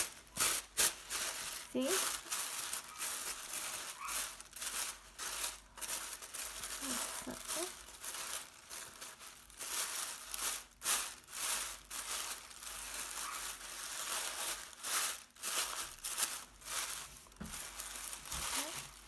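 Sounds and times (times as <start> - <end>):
tissue paper crinkling: 0.0 - 19.0.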